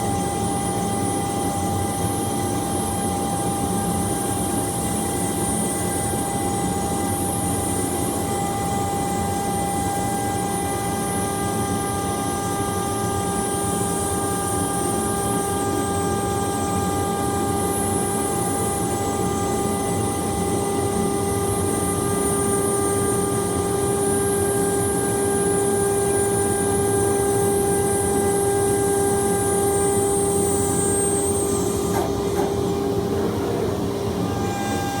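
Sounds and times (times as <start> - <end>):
milling machine whine: 0.0 - 35.0.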